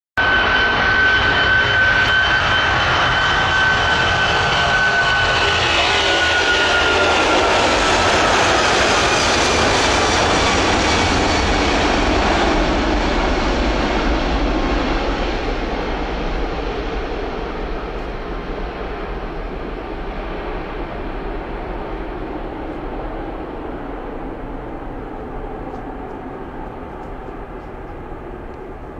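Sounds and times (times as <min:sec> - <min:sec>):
jetliner engines at takeoff: 0:00.2 - 0:28.9.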